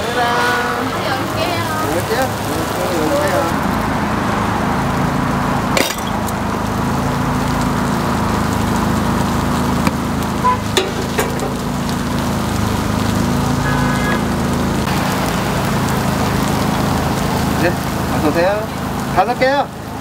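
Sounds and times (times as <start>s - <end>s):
food sizzling on griddle: 0.0s - 20.0s.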